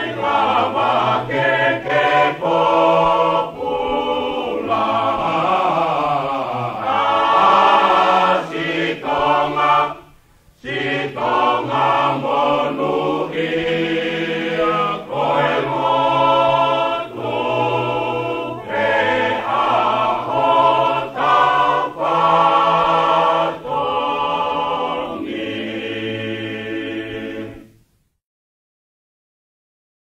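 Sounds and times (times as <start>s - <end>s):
choir singing: 0.0s - 27.8s.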